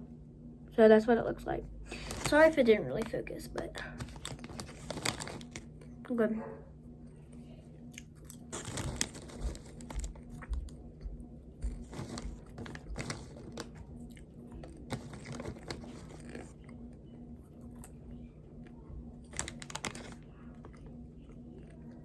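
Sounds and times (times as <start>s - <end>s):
steady low hum: 0.0s - 22.0s
chewing and crunching popcorn: 1.9s - 6.0s, 7.1s - 22.0s.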